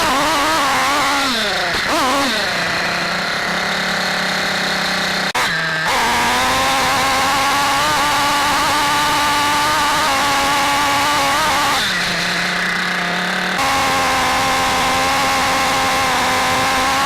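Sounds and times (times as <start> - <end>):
rc car nitro engine revving: 0.0 - 17.0.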